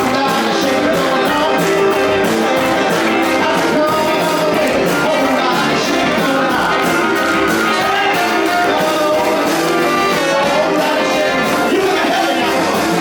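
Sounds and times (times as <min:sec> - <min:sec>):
band playing: 0:00.0 - 0:13.0.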